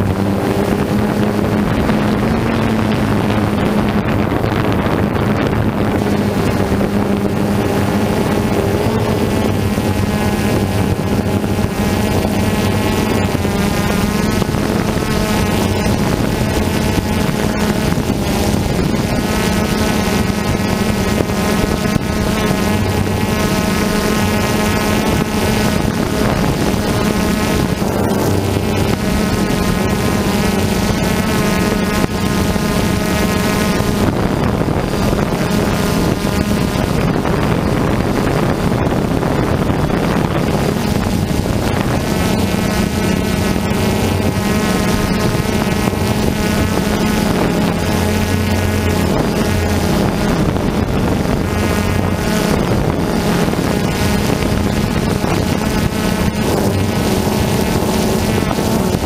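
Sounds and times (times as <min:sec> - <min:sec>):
drone motors buzzing: 0:00.0 - 0:59.0.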